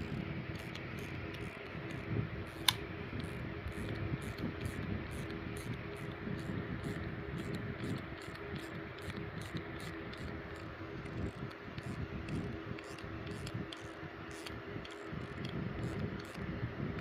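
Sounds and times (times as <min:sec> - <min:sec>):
background hum and hiss: 0:00.0 - 0:17.0
high-pitched ticks: 0:02.6 - 0:16.4.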